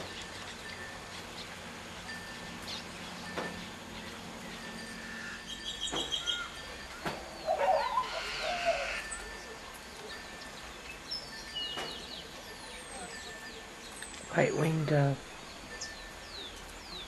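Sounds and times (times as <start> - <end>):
low wavering bird calls: 0.0 - 17.0.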